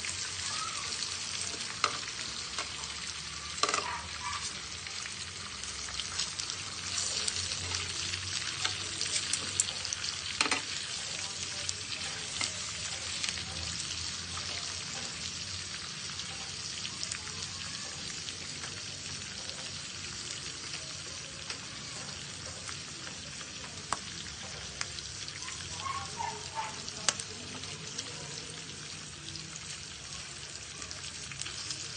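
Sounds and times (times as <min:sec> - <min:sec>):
pork chops sizzling in fat: 0:00.0 - 0:31.9.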